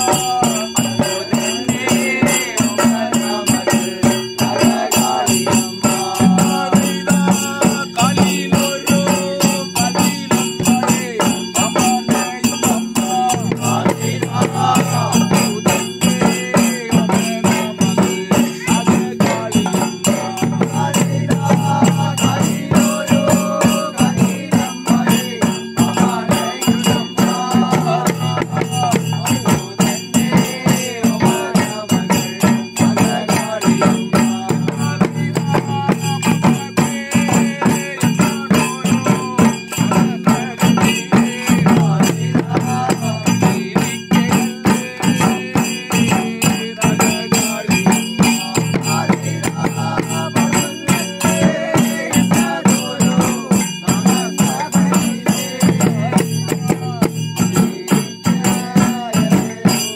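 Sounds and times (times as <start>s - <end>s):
fast drumming with sticks: 0.0s - 59.9s
men chanting: 0.0s - 59.9s
ringing metallic cymbals: 0.0s - 59.9s.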